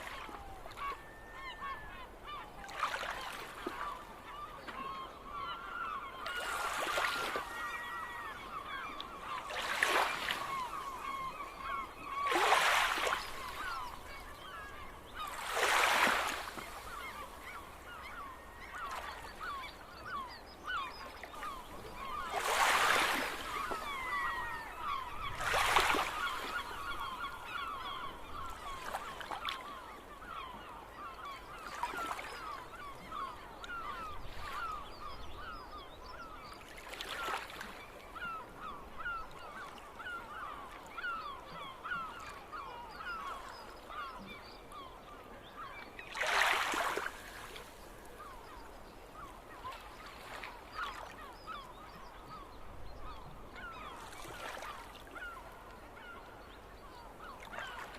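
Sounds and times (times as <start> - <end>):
gulls calling: 0.0 - 57.9.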